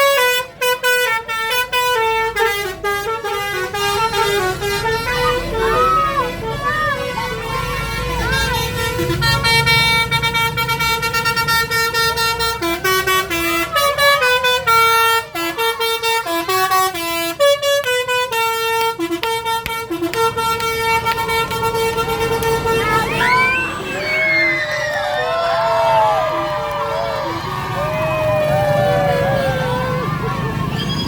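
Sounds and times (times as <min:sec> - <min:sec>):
multi-tone vehicle horn tune: 0:00.0 - 0:31.0
low engine rumble: 0:00.9 - 0:31.0.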